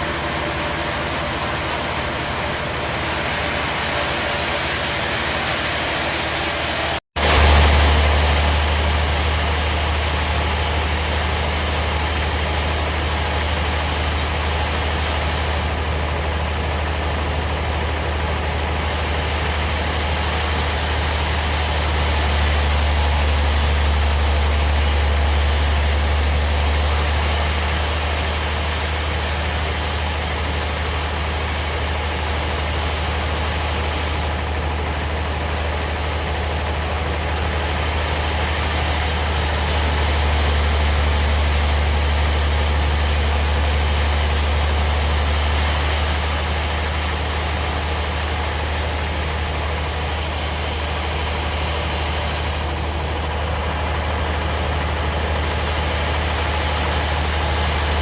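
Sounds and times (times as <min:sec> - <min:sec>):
sawmill bandsaw humming: 0:00.0 - 0:58.0.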